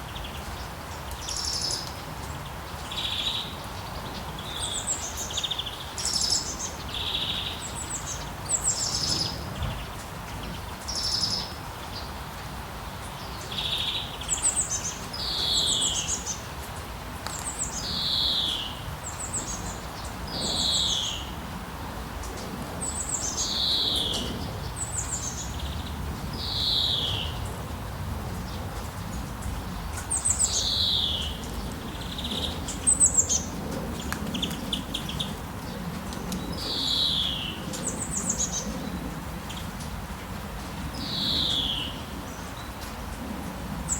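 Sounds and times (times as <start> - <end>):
birds whistling and trilling: 0.0 - 12.1, 13.1 - 16.5, 17.3 - 21.4, 22.8 - 27.6, 29.5 - 39.9, 40.9 - 42.9.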